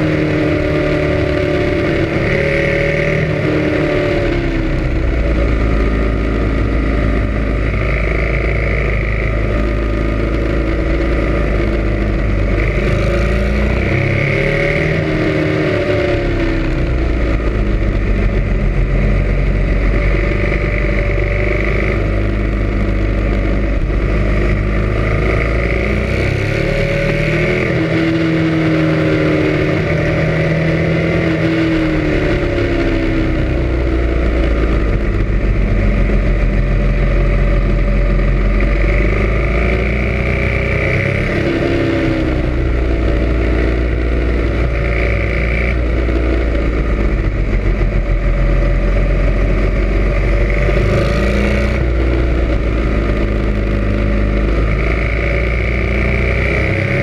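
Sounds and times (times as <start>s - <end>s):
motorcycle engine revving: 0.0s - 57.0s
road noise: 0.0s - 57.0s.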